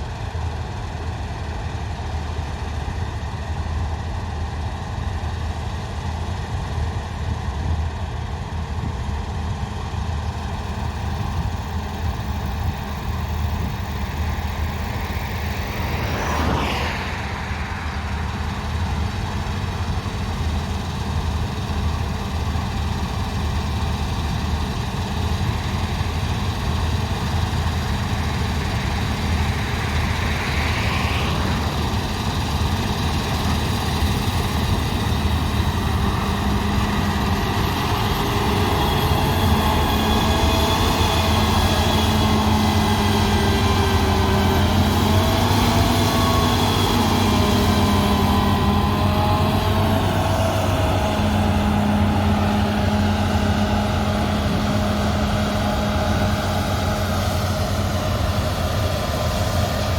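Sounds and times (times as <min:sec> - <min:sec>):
combine harvester engine droning: 0:00.0 - 0:59.9.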